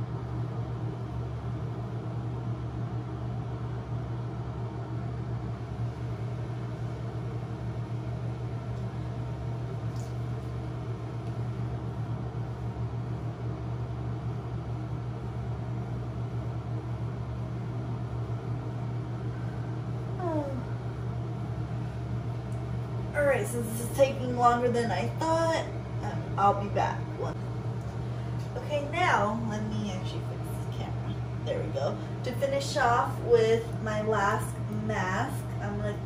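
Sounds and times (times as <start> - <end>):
ventilation fan humming: 0.0 - 36.0.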